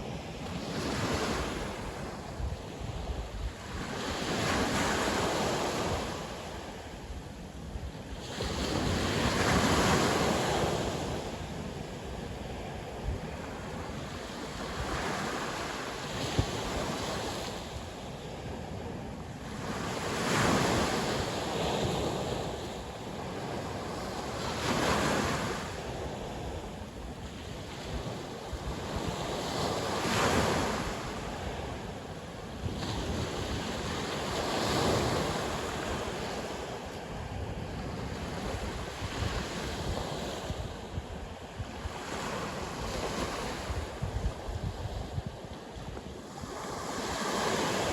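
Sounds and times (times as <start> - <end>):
waves breaking on shore: 0.0 - 47.9
wind on microphone: 0.0 - 47.9.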